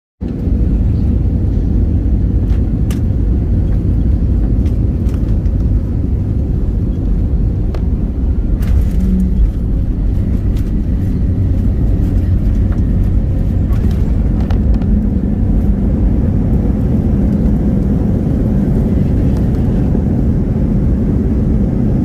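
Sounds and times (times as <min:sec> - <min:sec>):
airliner cabin rumble: 0:00.2 - 0:22.0.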